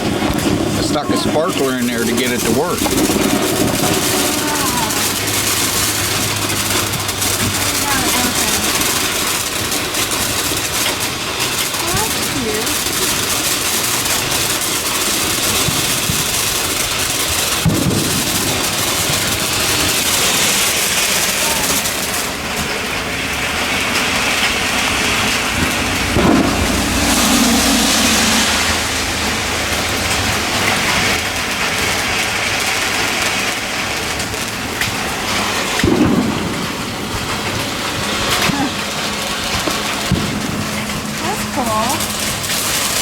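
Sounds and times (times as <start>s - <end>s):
fireworks booming: 0.0s - 43.0s
rain falling: 0.0s - 43.0s.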